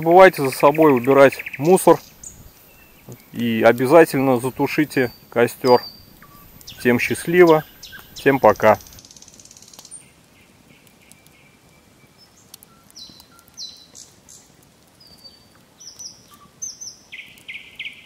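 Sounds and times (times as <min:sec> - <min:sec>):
birds singing: 0:00.0 - 0:18.0
campfire crackling: 0:00.0 - 0:18.0.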